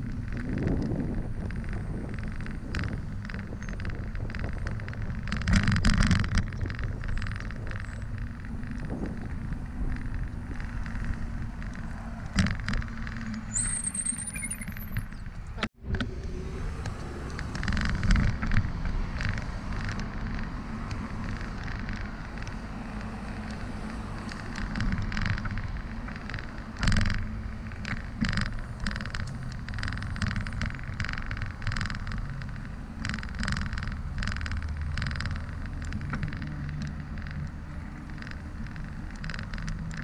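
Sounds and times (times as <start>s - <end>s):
bicycle knocks and rattles: 0.0s - 16.2s, 17.3s - 40.0s
bicycle tyre rumble: 0.0s - 40.0s
car traffic: 0.0s - 40.0s
wind on microphone: 0.0s - 40.0s.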